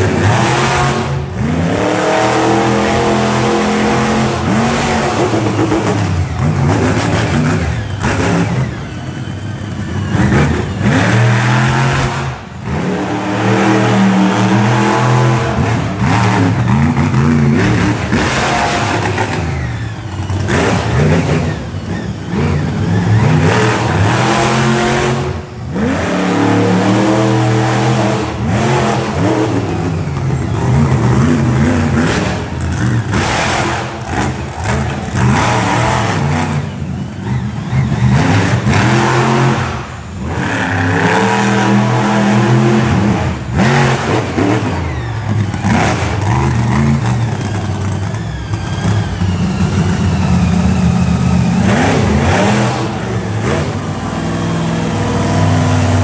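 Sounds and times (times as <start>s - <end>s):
truck engines revving: 0.0s - 56.0s.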